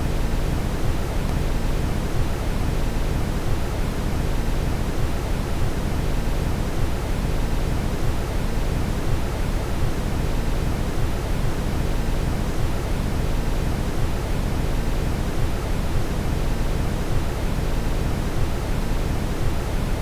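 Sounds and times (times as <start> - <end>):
brown noise hiss: 0.0 - 20.0.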